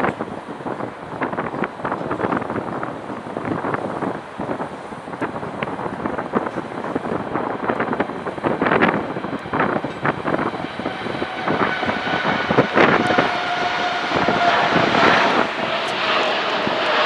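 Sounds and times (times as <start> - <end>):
jet engine whine: 0.0 - 17.0
wind buffeting microphone: 0.0 - 17.0.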